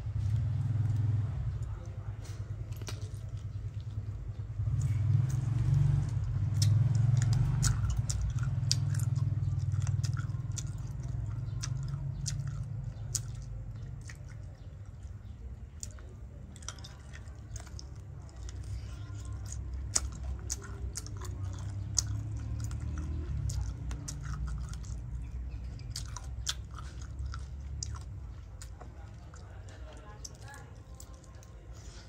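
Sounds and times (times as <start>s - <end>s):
person chewing crunchy food: 0.0s - 32.0s
steady low rumble: 0.0s - 32.0s.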